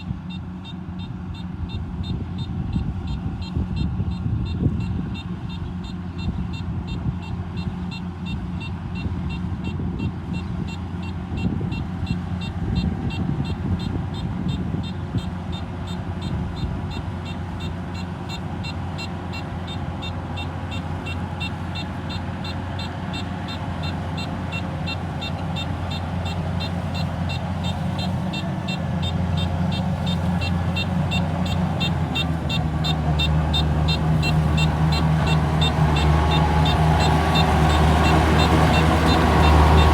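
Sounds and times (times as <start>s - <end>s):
harvester engine running: 0.0s - 39.9s
fast machinery ticking: 0.3s - 39.9s.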